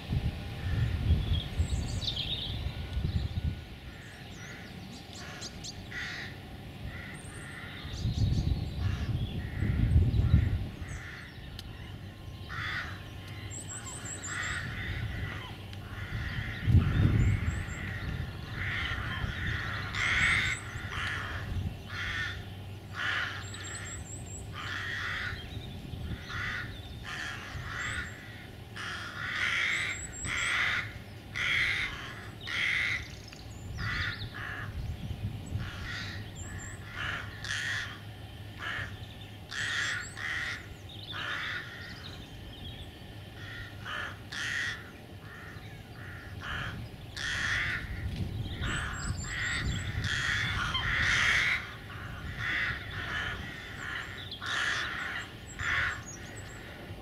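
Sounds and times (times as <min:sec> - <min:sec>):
low rumbles: 0:00.0 - 0:57.0
small birds chirping: 0:00.7 - 0:56.8
crows cawing: 0:03.9 - 0:07.9, 0:08.8 - 0:33.2, 0:33.8 - 0:34.8, 0:35.5 - 0:42.2, 0:43.4 - 0:56.9.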